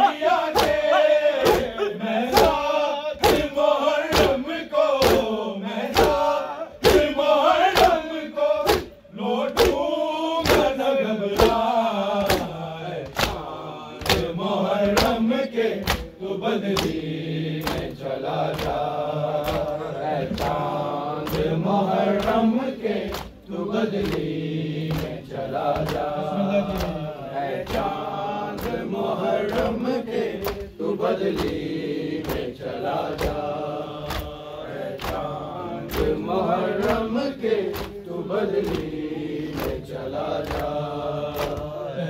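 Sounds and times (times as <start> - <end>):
men chanting together: 0.0 - 42.0.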